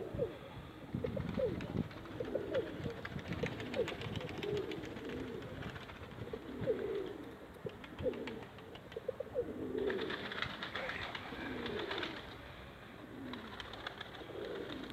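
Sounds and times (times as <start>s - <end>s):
pigeons cooing: 0.0s - 14.9s.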